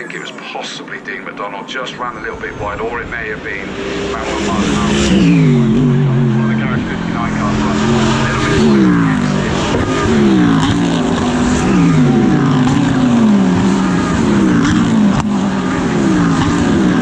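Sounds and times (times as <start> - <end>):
race car engine shifting gears: 2.0 - 17.0.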